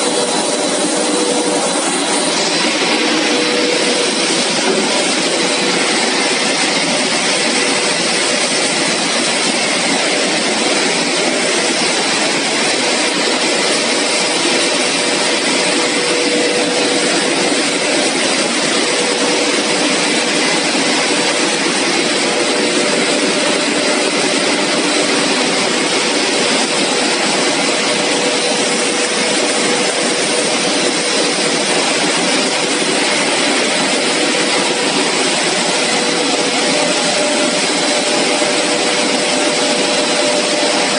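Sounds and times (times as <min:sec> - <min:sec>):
constant humming tone: 0:00.0 - 0:40.9
roar of blowers and motors: 0:00.0 - 0:40.9.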